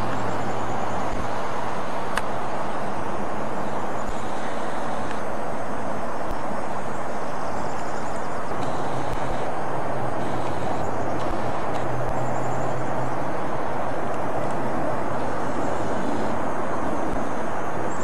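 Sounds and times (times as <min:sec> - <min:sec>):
diesel locomotive drone: 0:00.0 - 0:18.0.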